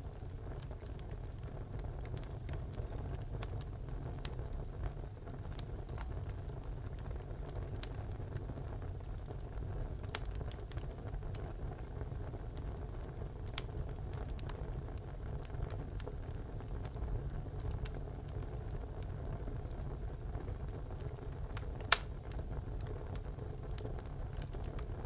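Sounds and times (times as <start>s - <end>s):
low rumble of fire: 0.0s - 25.0s
wood crackling and popping: 0.0s - 25.0s.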